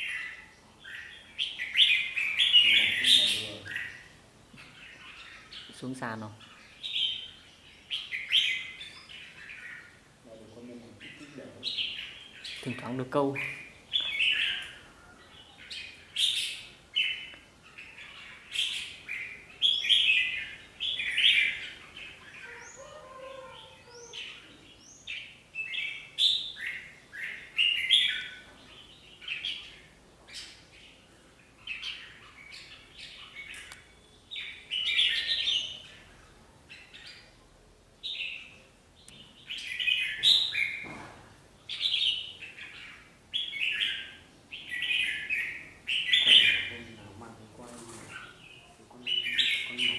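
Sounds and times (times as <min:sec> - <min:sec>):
birds chirping and whistling: 0:00.0 - 0:49.9.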